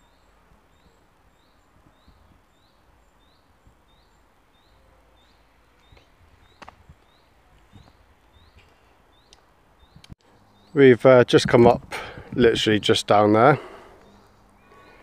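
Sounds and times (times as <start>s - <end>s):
bird chirping: 0.0s - 11.3s, 13.6s - 15.0s.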